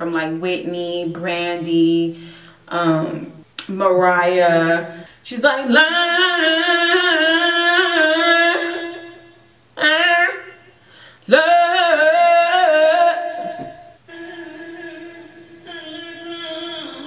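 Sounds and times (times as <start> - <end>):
woman singing unaccompanied: 0.0 - 17.0.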